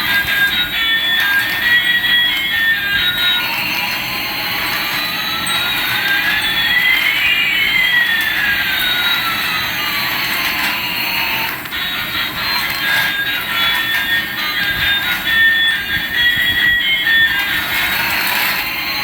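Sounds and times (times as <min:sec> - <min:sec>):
toy jet engine sound effect: 0:00.0 - 0:19.0.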